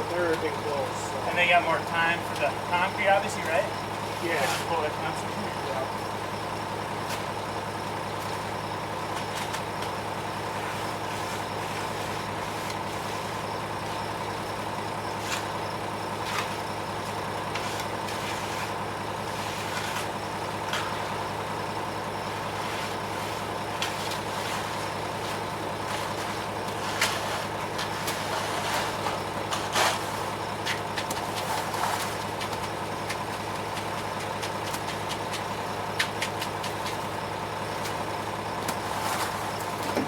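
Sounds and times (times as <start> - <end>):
concrete truck engine humming: 0.0 - 40.0.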